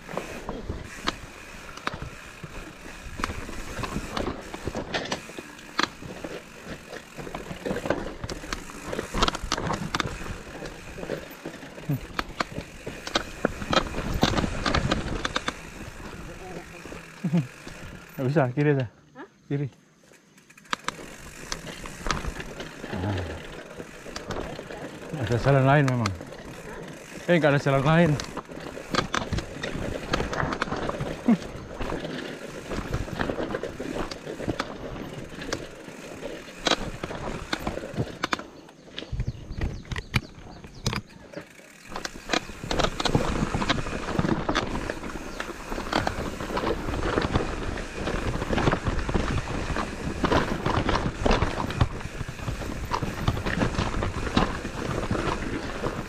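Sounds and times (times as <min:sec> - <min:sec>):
mountain bike rattling over rocks: 0:00.0 - 0:19.0, 0:19.6 - 0:56.0.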